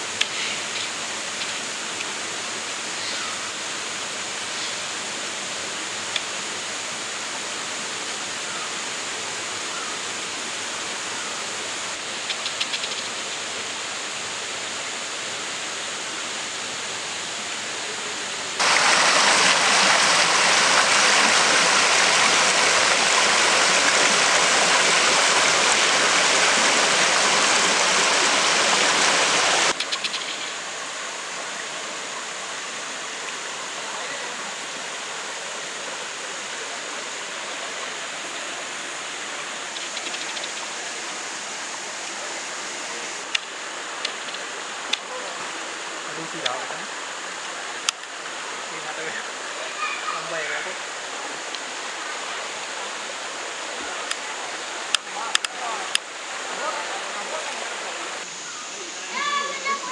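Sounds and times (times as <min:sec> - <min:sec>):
stream water over rocks: 0:00.0 - 0:59.9.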